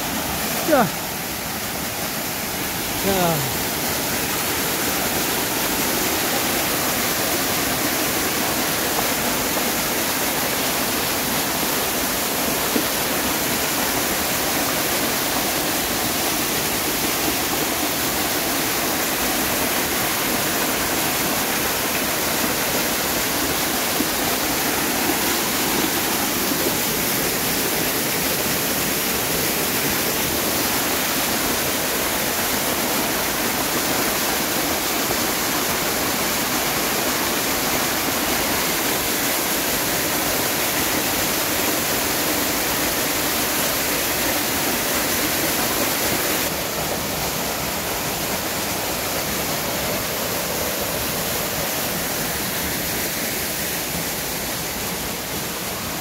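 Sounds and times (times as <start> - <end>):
water rushing over boulders: 0.0 - 56.0.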